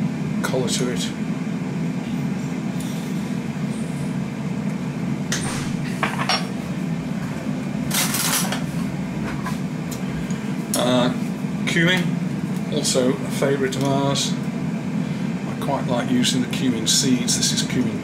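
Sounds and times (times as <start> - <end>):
air fryer humming: 0.0 - 18.0.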